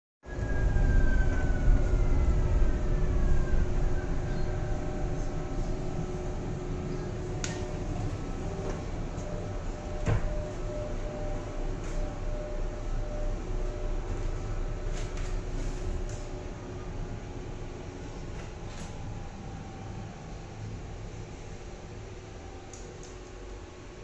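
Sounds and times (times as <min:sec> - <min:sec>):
tram rumble and whine: 0:00.2 - 0:24.0.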